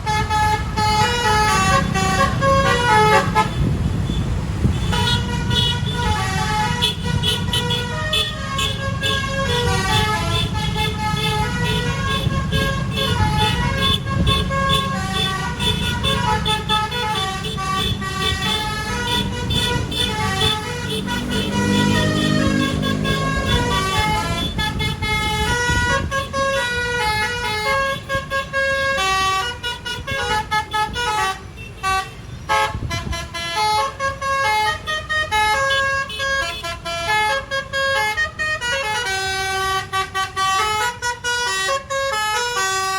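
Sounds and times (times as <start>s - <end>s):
musical bus horn melody: 0.0s - 42.9s.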